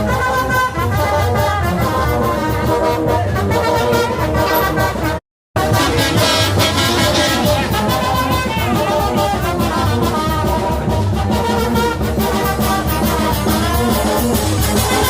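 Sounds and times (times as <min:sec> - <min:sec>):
brass band music: 0:00.0 - 0:15.0.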